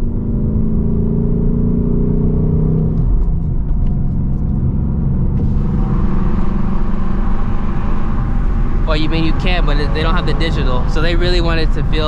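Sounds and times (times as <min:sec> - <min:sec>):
car engine drone from cabin: 0:00.0 - 0:12.0.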